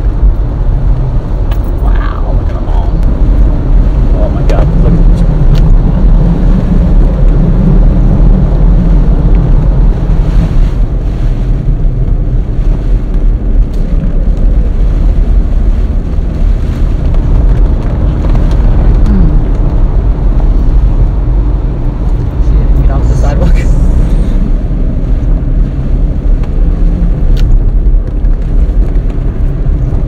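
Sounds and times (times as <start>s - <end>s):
vehicle engine and road noise: 0.0s - 30.0s
wind buffeting microphone: 0.0s - 30.0s.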